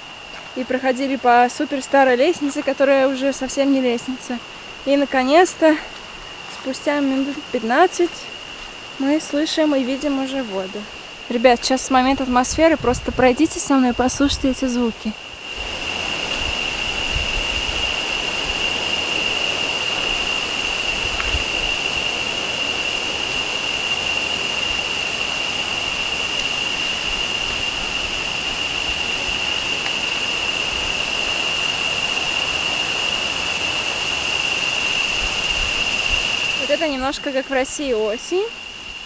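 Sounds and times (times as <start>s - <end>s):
high-pitched insect drone: 0.0s - 39.0s.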